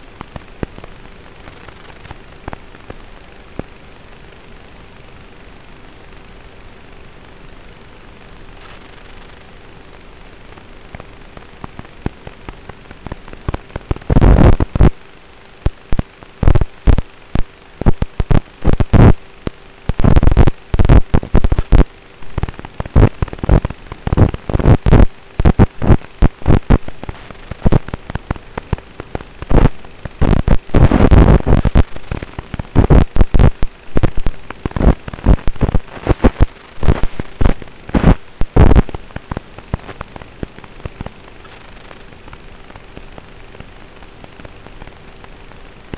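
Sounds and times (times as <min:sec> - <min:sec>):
crackling and popping bursts: 0:00.0 - 0:45.9
faint hum: 0:00.0 - 0:45.9
steady hiss: 0:00.0 - 0:45.9.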